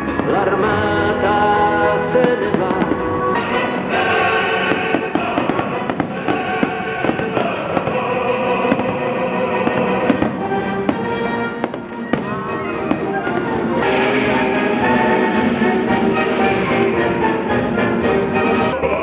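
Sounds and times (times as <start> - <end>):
music: 0.0 - 19.0
fireworks bangs: 1.9 - 18.2.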